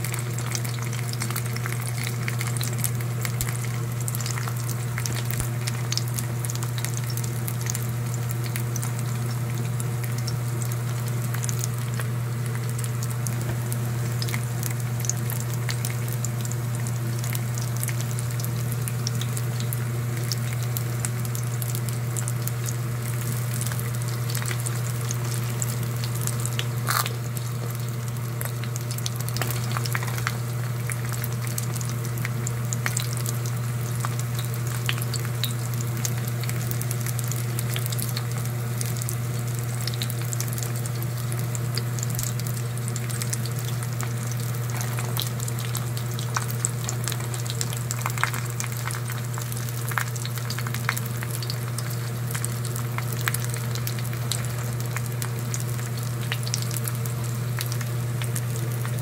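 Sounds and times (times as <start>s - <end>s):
constant low hum: 0.0s - 59.0s
food frying in oil: 0.0s - 59.0s.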